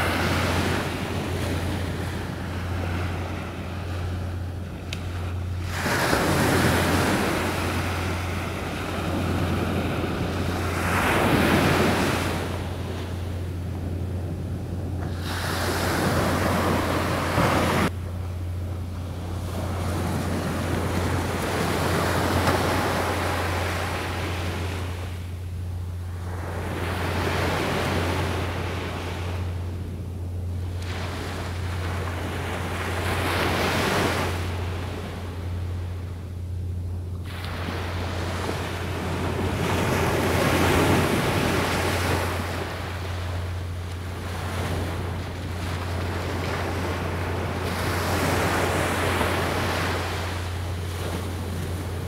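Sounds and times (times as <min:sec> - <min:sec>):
sea waves breaking on beach: 0:00.0 - 0:18.0, 0:18.9 - 0:25.3, 0:26.1 - 0:29.8, 0:30.6 - 0:36.1, 0:37.2 - 0:52.0
steady low hum: 0:00.0 - 0:52.0.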